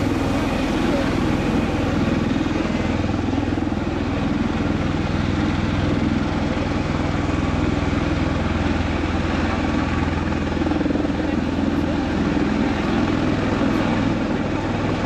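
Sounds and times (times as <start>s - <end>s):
aircraft engine whine: 0.0s - 15.0s.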